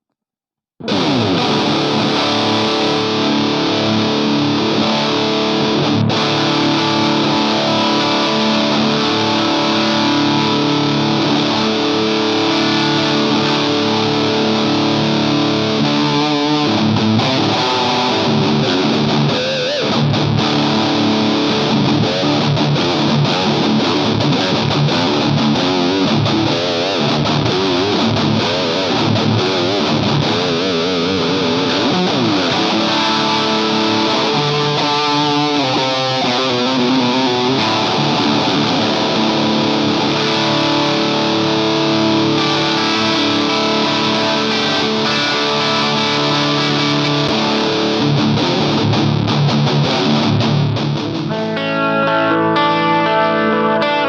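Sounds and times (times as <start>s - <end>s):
distorted electric guitar: 0.8s - 54.0s.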